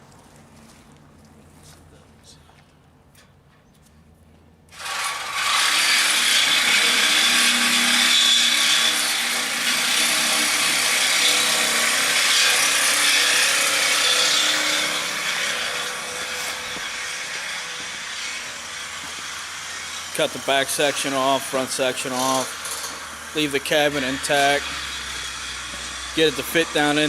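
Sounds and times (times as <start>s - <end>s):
reciprocating saw cutting steel: 4.7s - 27.0s.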